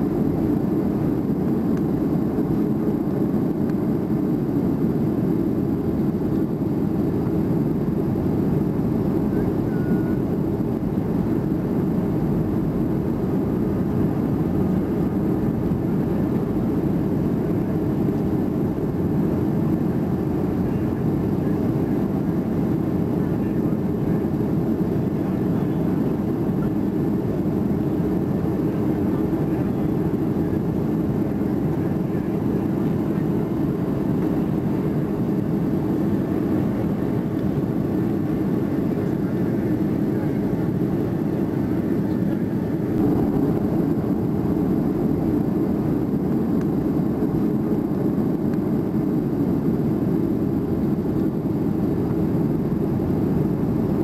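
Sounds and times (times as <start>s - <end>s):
jet cabin drone: 0.0s - 54.0s.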